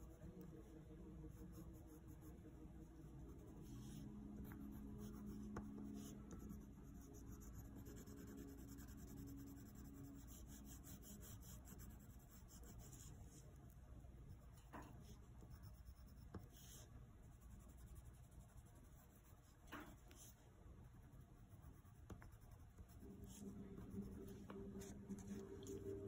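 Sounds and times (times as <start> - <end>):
pencil scratching on paper: 0.0 - 20.4, 21.0 - 26.0
faint low hum: 0.0 - 26.0.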